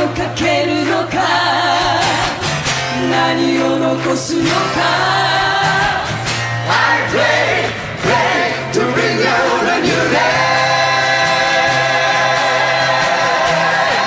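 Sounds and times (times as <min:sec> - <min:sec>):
person singing with band: 0:00.0 - 0:14.0.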